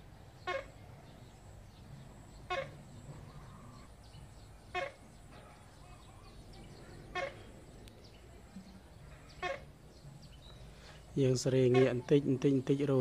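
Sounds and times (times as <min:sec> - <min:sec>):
faint chirping: 0:00.0 - 0:13.0
low outdoor hum: 0:00.0 - 0:13.0.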